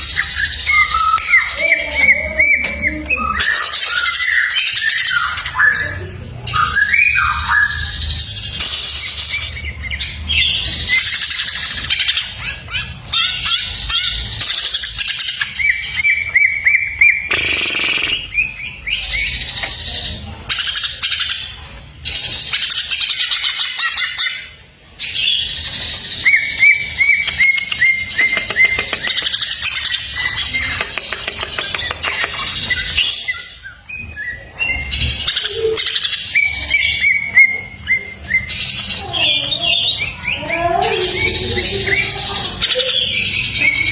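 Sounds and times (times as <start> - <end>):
bird singing chirps and trills: 0.0 - 43.9.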